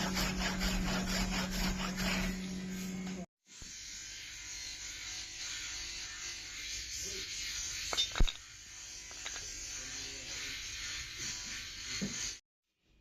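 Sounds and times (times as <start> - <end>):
power tool buzzing whir: 0.0 - 12.4.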